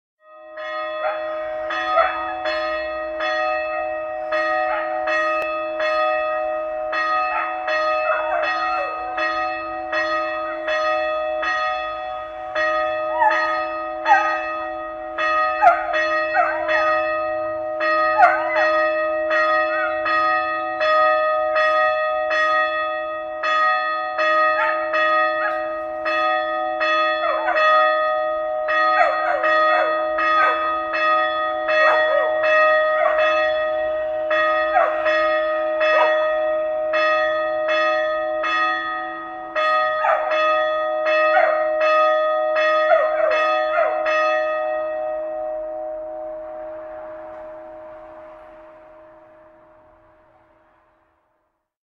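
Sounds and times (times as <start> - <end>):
small church bell ringing: 0.2 - 51.2.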